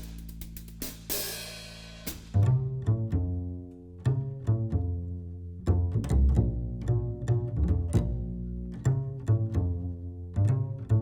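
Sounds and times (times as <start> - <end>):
cello and double bass music: 0.0 - 11.0.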